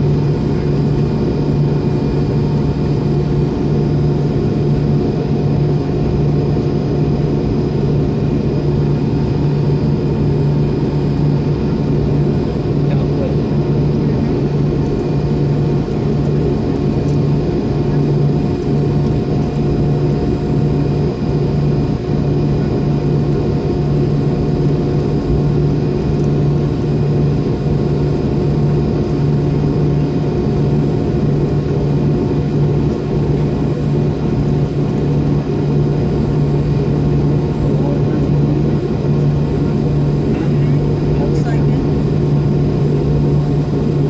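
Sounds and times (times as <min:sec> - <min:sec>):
airplane cabin engine drone: 0:00.0 - 0:44.0.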